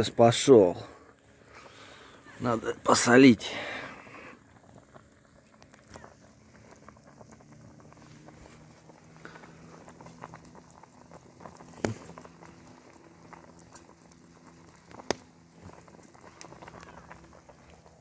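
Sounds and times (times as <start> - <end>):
campfire crackling: 0.0 - 18.0
sharp fire cracks: 1.2 - 18.0.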